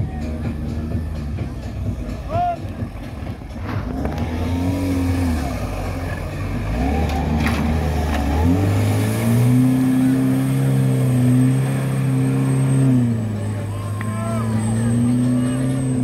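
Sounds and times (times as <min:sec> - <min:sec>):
vehicle engine running under load: 0:00.2 - 0:16.0.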